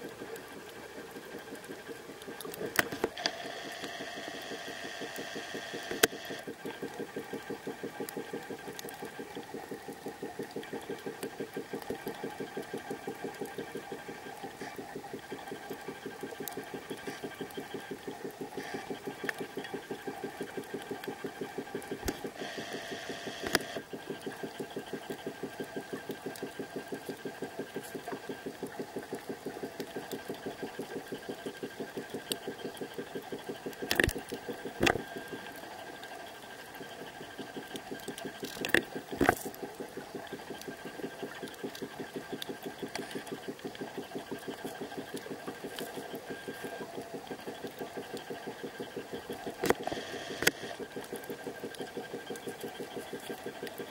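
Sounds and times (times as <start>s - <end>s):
camera lens motor pulsing: 0.0s - 53.9s.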